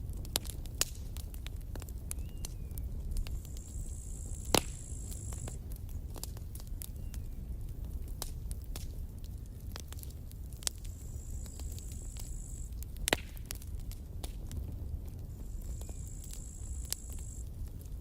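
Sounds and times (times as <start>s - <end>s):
campfire crackling and popping: 0.0s - 18.0s
low steady fire rumble: 0.0s - 18.0s.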